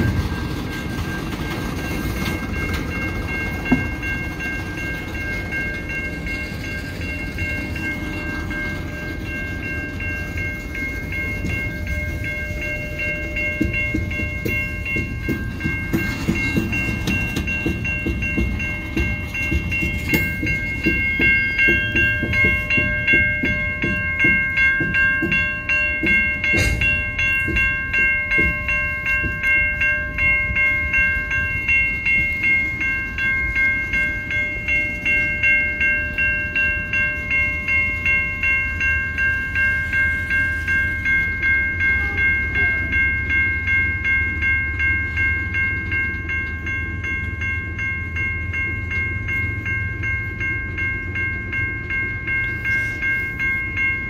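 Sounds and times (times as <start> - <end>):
crossing warning bell ringing: 0.0 - 54.0
train cars rumbling: 0.0 - 54.0
wheels clacking over rail joints: 0.0 - 54.0.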